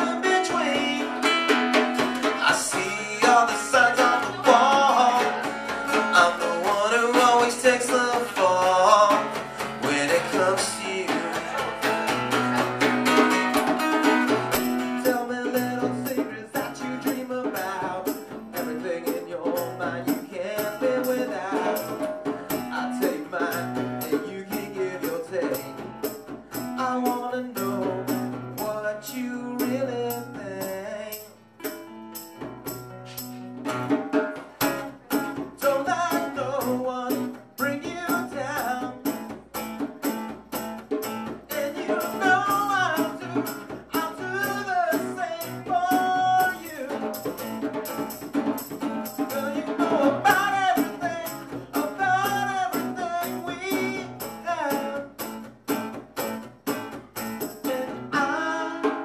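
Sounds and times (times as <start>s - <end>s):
man singing: 0.0s - 31.4s, 34.4s - 39.4s, 41.2s - 55.4s, 57.4s - 59.0s
drums and cymbal beat: 0.0s - 59.0s
strummed acoustic guitar: 0.0s - 59.0s.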